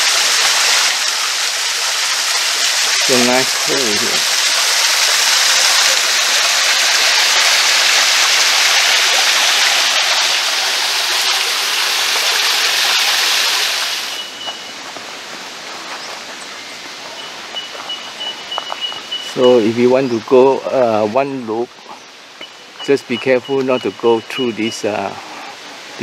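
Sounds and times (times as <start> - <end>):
creek water rushing and splashing: 0.0 - 26.0.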